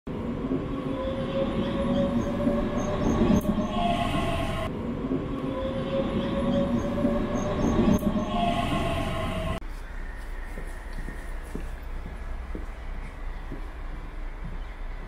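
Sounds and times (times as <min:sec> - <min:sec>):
train rumbling on rails: 0:00.1 - 0:15.0.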